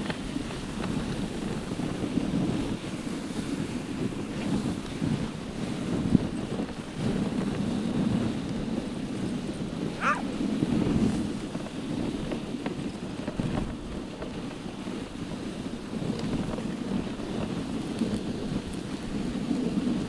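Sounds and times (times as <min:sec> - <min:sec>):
sled running over snow: 0:00.0 - 0:20.0
wind buffeting microphone: 0:00.0 - 0:20.0.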